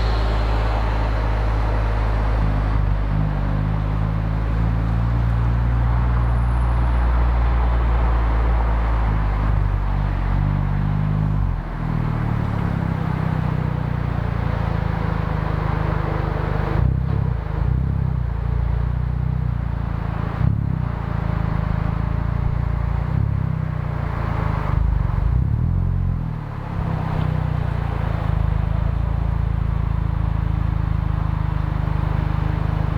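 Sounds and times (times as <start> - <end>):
car exhaust at low revs: 0.0 - 32.9.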